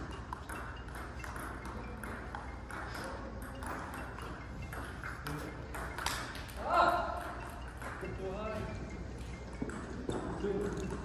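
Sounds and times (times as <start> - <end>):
table tennis balls clicking: 0.0 - 11.0.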